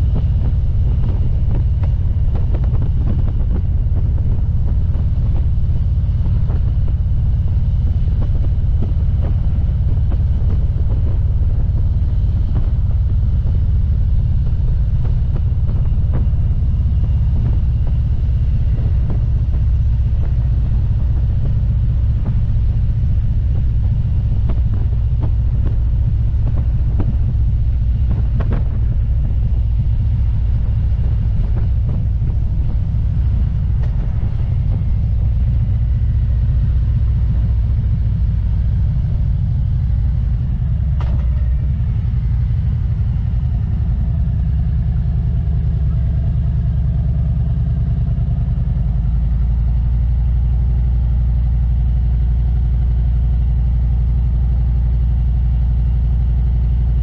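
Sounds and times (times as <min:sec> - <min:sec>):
wind buffeting microphone: 0:00.0 - 0:48.4
motorcycle engine and road rumble: 0:00.0 - 0:57.0.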